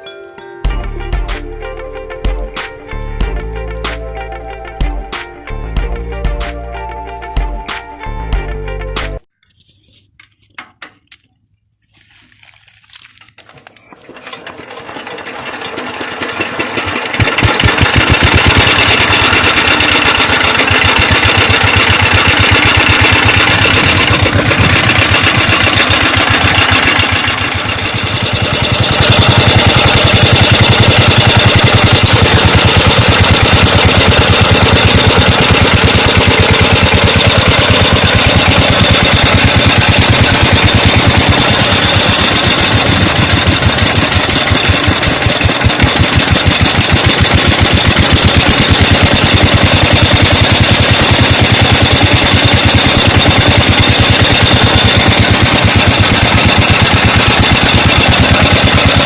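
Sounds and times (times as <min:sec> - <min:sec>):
diesel engine starting and running: 0:00.7 - 0:09.3, 0:13.4 - 0:59.0.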